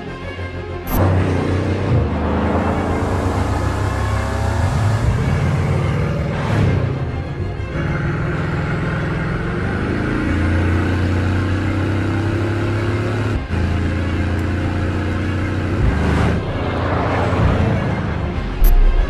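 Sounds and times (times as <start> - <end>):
car engine accelerating hard: 0.9 - 19.0.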